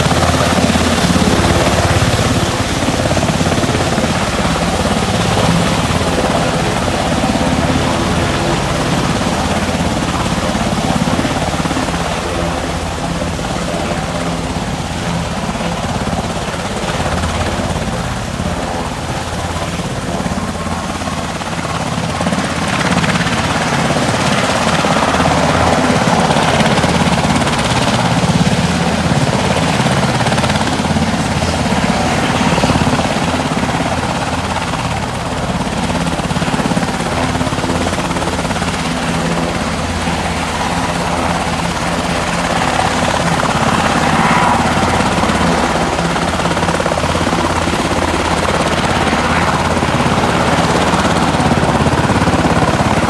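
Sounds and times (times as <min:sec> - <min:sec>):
helicopter engines and rotor: 0:00.0 - 0:53.0.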